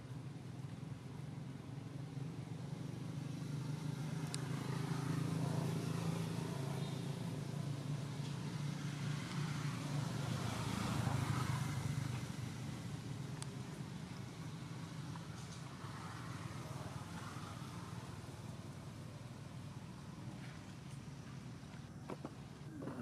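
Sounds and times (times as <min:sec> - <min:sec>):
traffic engines humming: 0:00.0 - 0:23.0.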